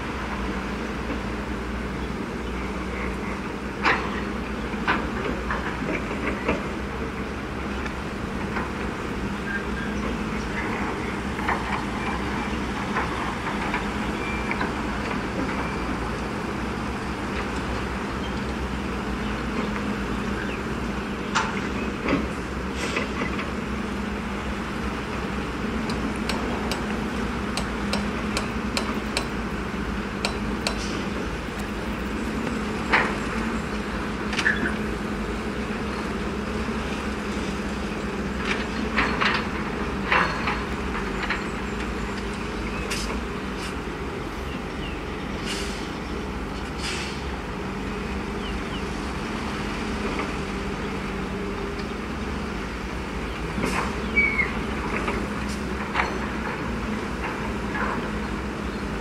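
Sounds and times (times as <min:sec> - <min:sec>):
dump truck engine running: 0:00.0 - 0:59.0.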